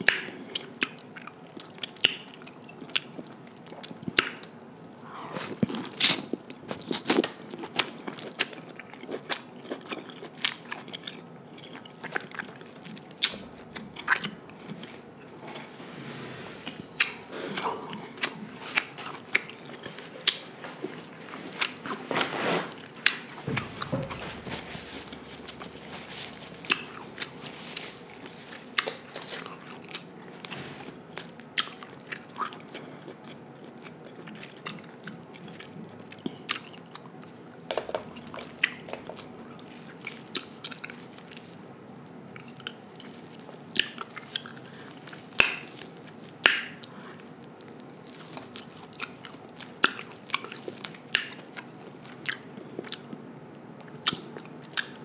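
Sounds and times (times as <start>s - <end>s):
chewing crab meat: 0.0s - 15.7s, 16.6s - 55.0s.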